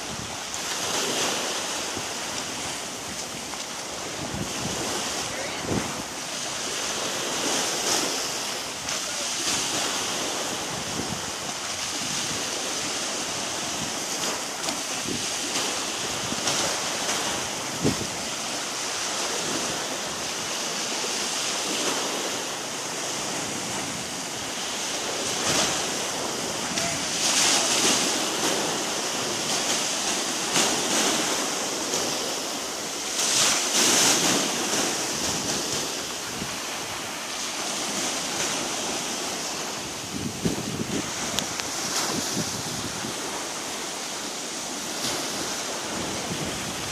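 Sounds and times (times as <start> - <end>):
small waves washing on shore: 0.0 - 46.9.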